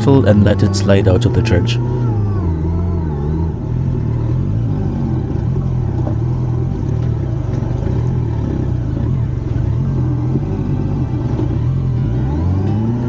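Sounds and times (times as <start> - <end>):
motorcycle engine under throttle: 0.0 - 13.0.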